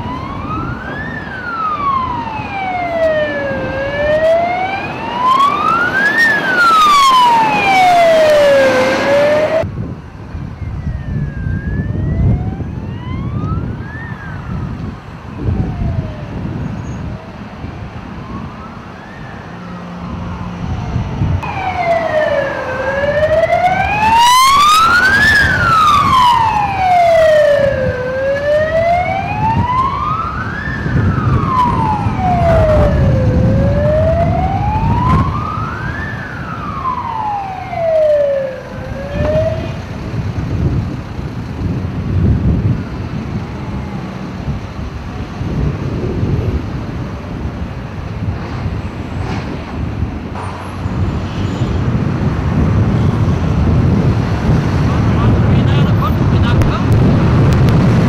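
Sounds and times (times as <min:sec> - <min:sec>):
fire engine siren wailing: 0:00.0 - 0:58.0
road traffic rumble: 0:00.0 - 0:58.0.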